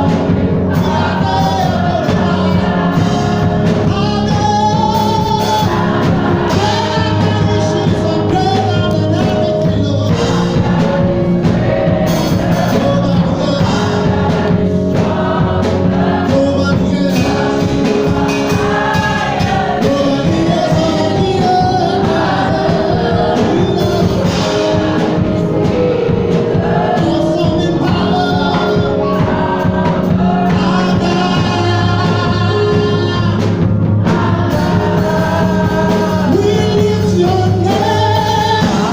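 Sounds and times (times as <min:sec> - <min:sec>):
gospel choir singing: 0:00.0 - 0:38.9.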